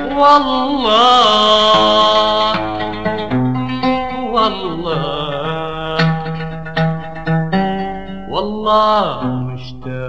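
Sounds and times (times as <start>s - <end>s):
band playing plucked melody: 0.0s - 10.0s.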